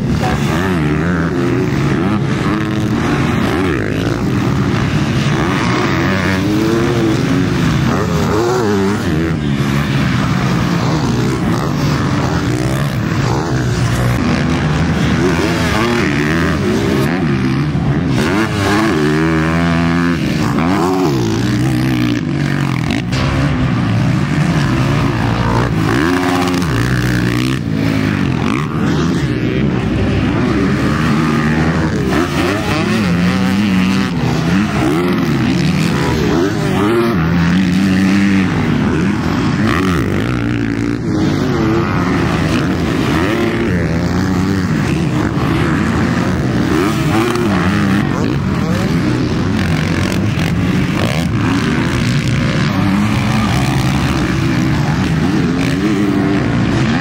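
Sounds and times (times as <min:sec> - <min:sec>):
motocross bikes revving: 0:00.0 - 0:57.0.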